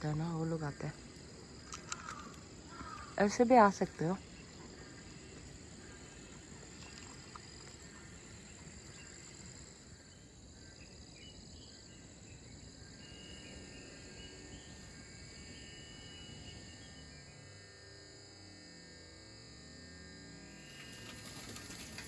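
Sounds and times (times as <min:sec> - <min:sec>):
low background noise: 0:00.0 - 0:18.4, 0:19.8 - 0:22.0
insects chirring: 0:00.0 - 0:22.0.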